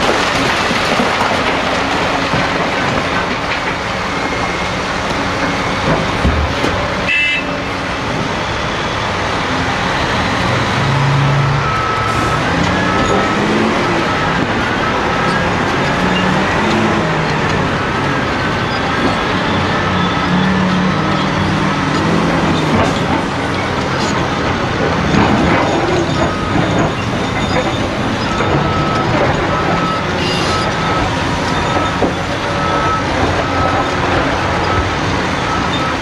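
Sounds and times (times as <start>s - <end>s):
excavator diesel engine and hydraulics: 0.0s - 36.0s.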